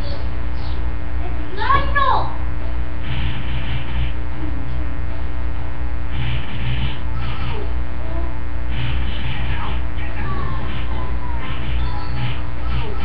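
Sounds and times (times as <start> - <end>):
faint wavering sounds: 0.0 - 13.0
loud electrical buzz: 0.0 - 13.0.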